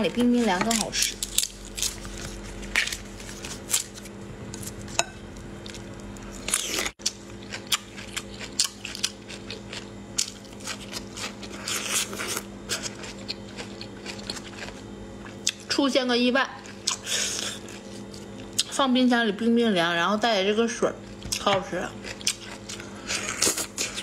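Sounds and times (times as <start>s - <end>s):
steady low hum: 0.0s - 24.0s
crunchy chewing: 0.4s - 15.7s, 16.6s - 18.8s, 21.1s - 24.0s.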